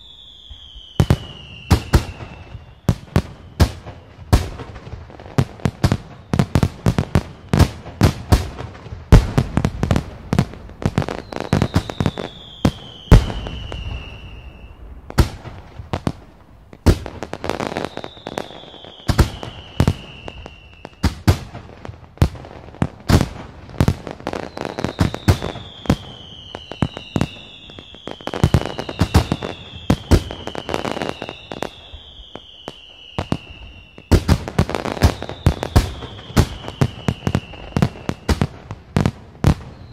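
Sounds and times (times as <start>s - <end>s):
whistling fireworks: 0.0s - 39.9s
firework bangs: 0.4s - 39.9s.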